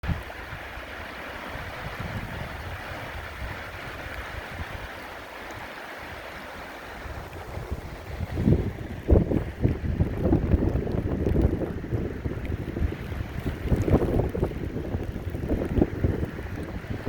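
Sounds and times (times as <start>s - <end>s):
waterfall rushing: 0.0s - 17.0s
wind buffeting microphone: 1.4s - 17.0s.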